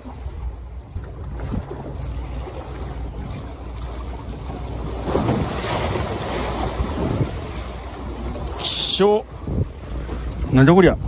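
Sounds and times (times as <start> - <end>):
sea waves washing against concrete: 0.0 - 11.0
wind buffeting microphone: 0.0 - 11.0.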